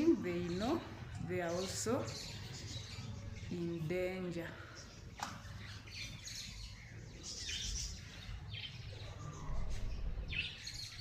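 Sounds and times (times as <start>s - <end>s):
wild birds chirping: 0.0s - 11.0s.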